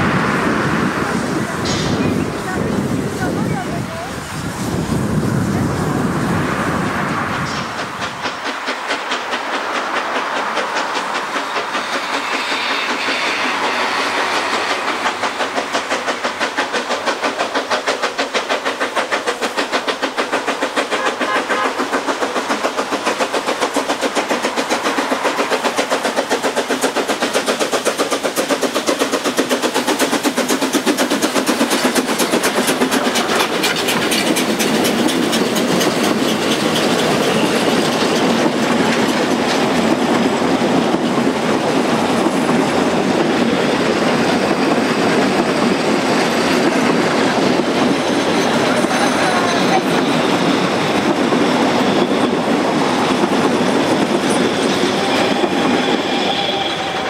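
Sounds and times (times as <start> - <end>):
steam locomotive chugging: 0.0 - 57.0
train wheels clattering: 0.9 - 4.2, 6.5 - 57.0.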